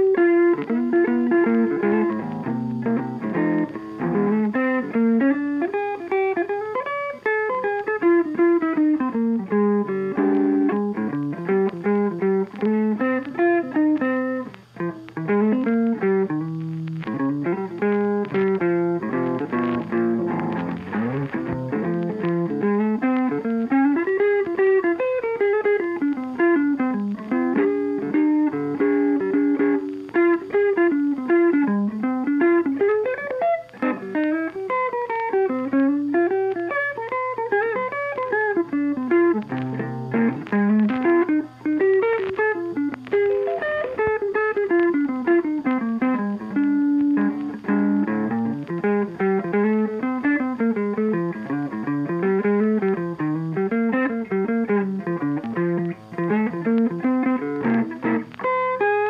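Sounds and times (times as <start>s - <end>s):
plucked string melody: 0.0s - 59.0s.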